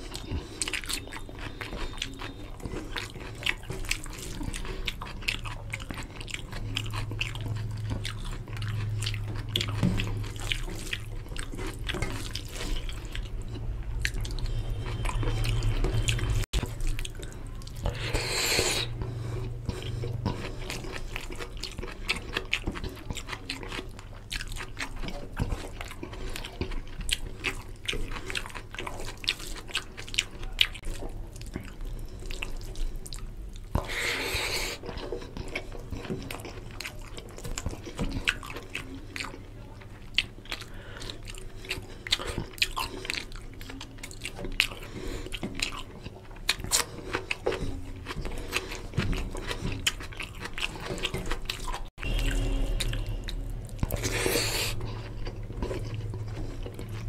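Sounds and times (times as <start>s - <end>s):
wet chewing and lip smacks: 0.0s - 57.0s.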